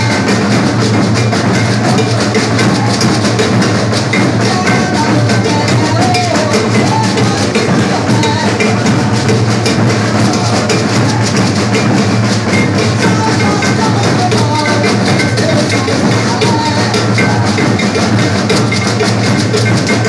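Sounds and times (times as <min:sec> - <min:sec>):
bass drums: 0:00.0 - 0:20.0
snare drums: 0:00.0 - 0:20.0
wooden and metal percussion strokes: 0:00.0 - 0:20.0.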